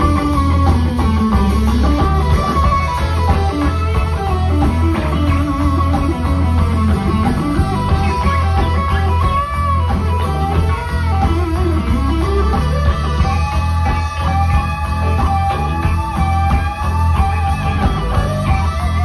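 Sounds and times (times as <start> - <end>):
electric blues guitar lead: 0.0 - 19.0
low bass: 0.0 - 19.0.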